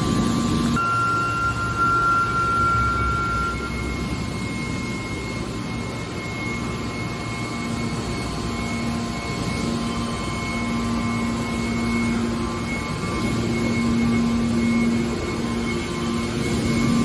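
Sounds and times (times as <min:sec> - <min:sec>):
baler machine hum: 0:00.0 - 0:17.0
high whine: 0:00.0 - 0:17.0.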